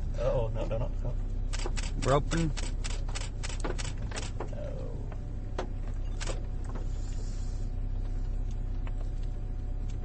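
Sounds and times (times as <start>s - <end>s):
idling vehicle hum: 0.0s - 10.0s.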